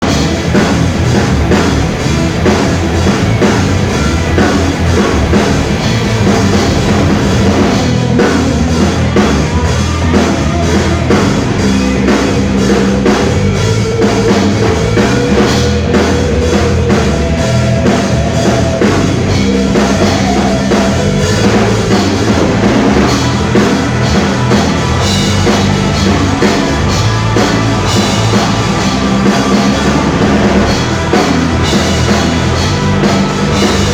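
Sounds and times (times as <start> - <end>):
rock band music: 0.0 - 33.9.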